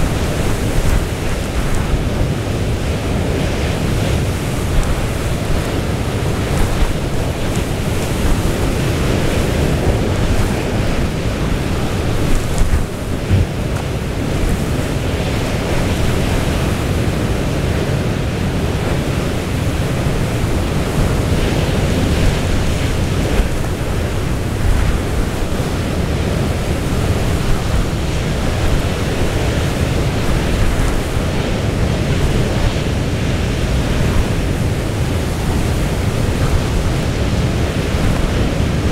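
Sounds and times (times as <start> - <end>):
rough sea breaking: 0.0 - 38.9
storm wind on microphone: 0.0 - 38.9.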